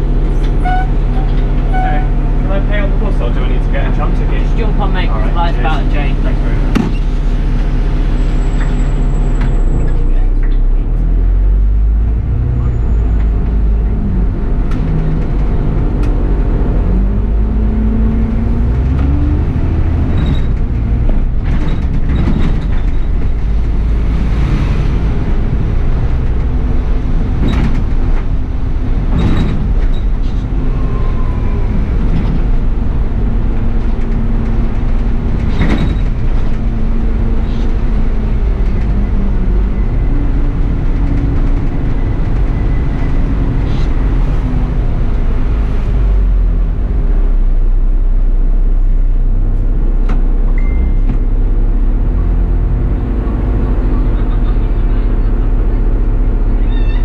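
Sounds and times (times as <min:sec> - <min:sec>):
bus engine running: 0:00.0 - 0:57.0
bus rattling: 0:00.0 - 0:57.0.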